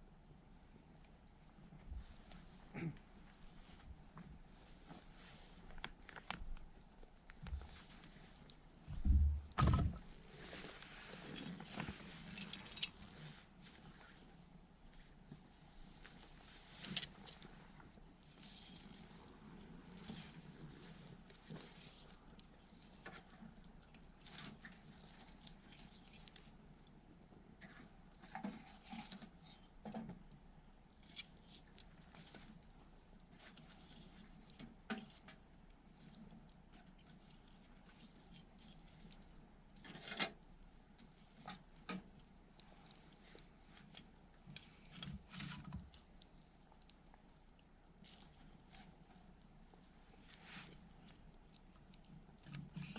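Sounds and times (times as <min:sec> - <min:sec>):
campfire crackling: 0:00.6 - 0:52.9.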